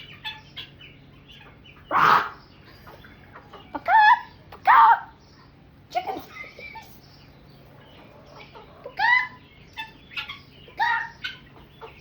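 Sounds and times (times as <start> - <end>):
chickens clucking: 0.0 - 12.0
chickens squawking: 0.0 - 12.0.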